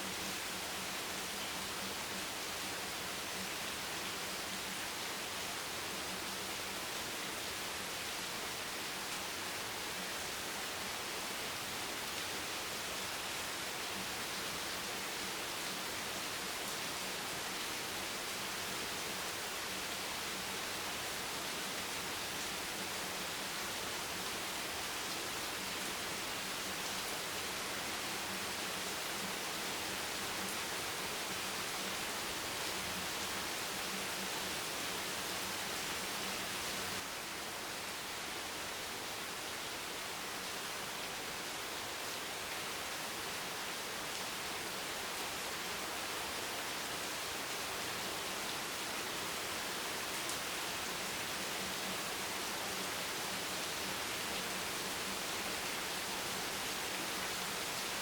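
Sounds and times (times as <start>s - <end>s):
heavy rain on a bench: 2.0s - 58.0s.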